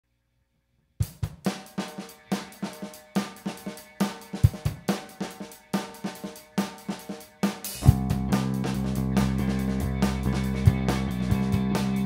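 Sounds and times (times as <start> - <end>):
drum kit playing groove: 1.0 - 12.0.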